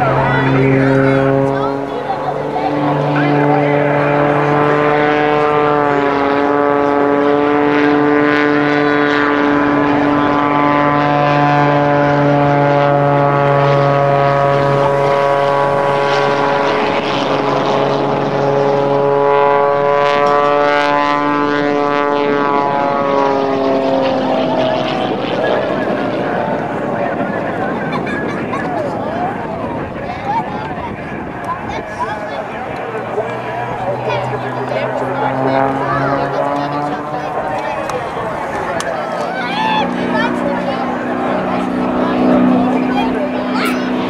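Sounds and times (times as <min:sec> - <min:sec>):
propeller plane engine droning: 0:00.0 - 0:44.0.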